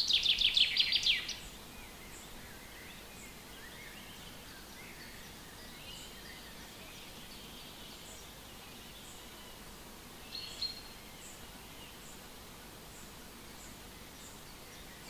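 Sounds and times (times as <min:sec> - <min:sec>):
background hiss: 0:00.0 - 0:15.0
birds singing: 0:00.0 - 0:15.0.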